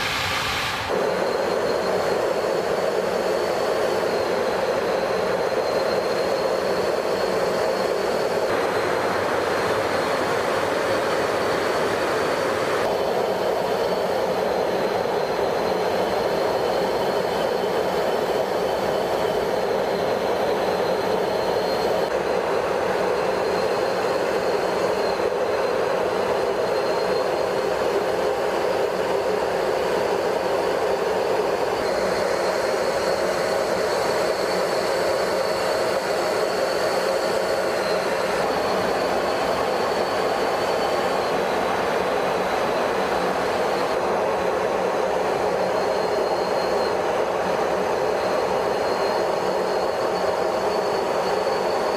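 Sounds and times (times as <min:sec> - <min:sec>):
faint high whine: 0:00.0 - 0:51.9
rushing drone of engines and airflow: 0:00.0 - 0:51.9.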